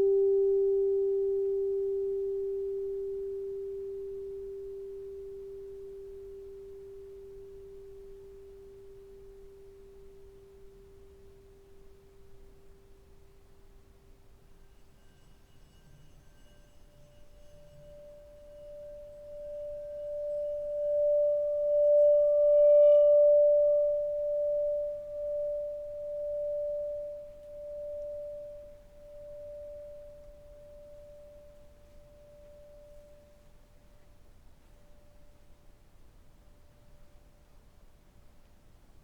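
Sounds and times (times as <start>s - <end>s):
lower ringing tone: 0.0s - 35.6s
singing bowl tone: 0.0s - 35.6s.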